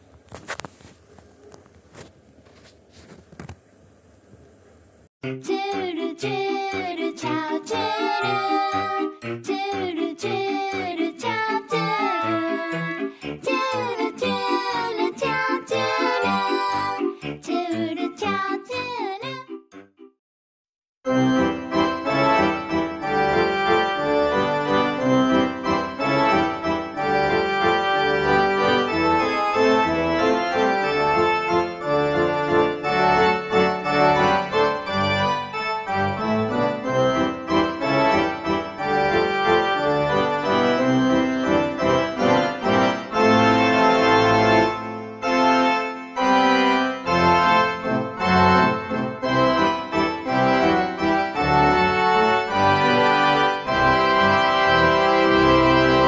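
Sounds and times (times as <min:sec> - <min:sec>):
background music: 0:05.2 - 0:20.2, 0:21.1 - 0:56.0.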